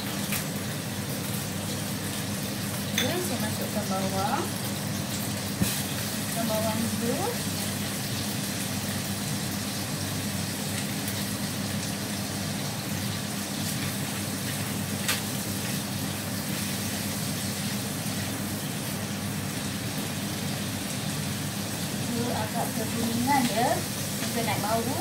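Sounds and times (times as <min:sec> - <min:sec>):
shallots and garlic sizzling: 0:00.0 - 0:25.0.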